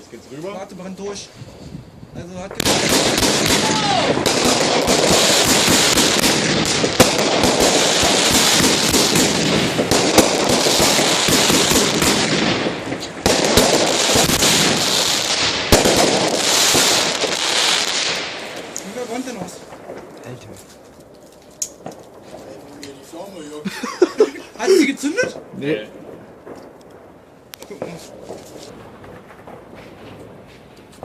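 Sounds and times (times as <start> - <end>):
fireworks crackling bangs: 0.0 - 31.0.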